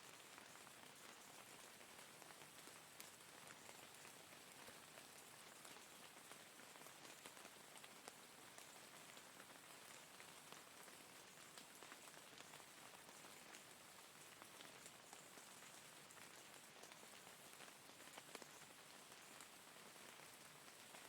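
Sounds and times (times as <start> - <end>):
rain hiss: 0.0 - 21.0
raindrops ticking on a surface: 0.0 - 21.0.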